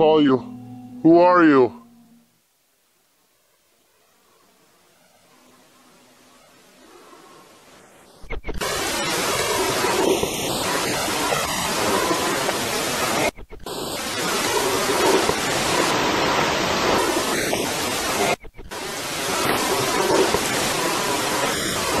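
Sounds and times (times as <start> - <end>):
loud background hiss: 0.0 - 22.0.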